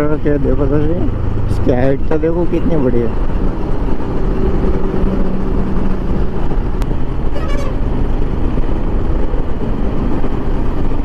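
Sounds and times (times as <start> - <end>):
road noise: 0.0 - 11.0
truck passing: 0.0 - 11.0
wind rush: 0.0 - 11.0.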